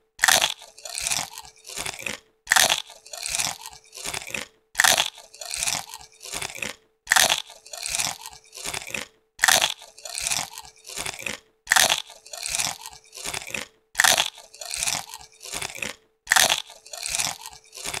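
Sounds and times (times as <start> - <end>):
potato chips crunching: 0.2 - 18.0.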